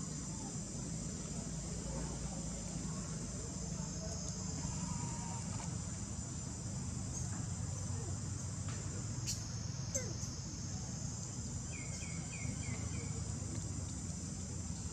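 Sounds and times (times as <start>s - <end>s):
insect chorus drone: 0.0s - 14.9s.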